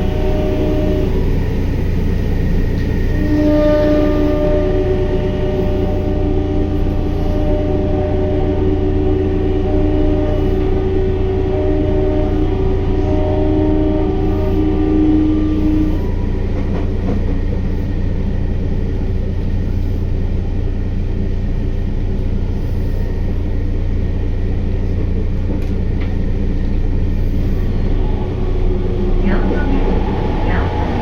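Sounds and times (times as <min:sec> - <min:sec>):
train motor whine: 0:00.0 - 0:31.0
train wheels rumbling: 0:00.0 - 0:31.0.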